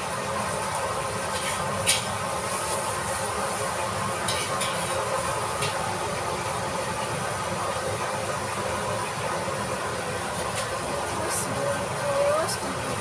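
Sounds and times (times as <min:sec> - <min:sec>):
cooking hiss on stove: 0:00.0 - 0:13.0.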